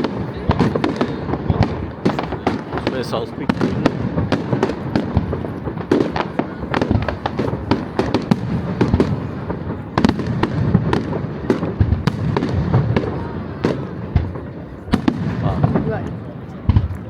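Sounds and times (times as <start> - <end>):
distant explosions rumbling: 0.0 - 17.0
fireworks bangs and crackles: 0.0 - 17.0.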